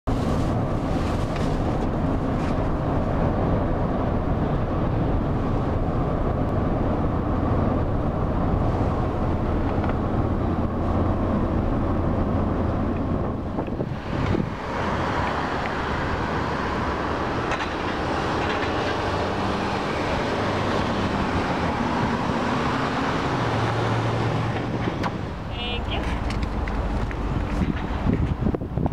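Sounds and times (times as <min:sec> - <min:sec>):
ferry engines droning: 0:00.2 - 0:28.9.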